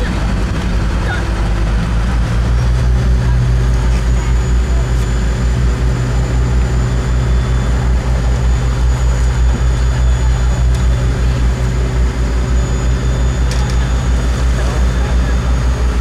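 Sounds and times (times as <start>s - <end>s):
boat engines droning: 0.0s - 16.0s.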